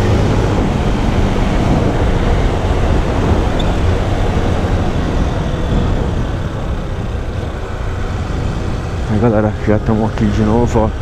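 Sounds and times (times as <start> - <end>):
motorcycle engine running: 0.0 - 9.7
road and wind noise: 0.0 - 11.0.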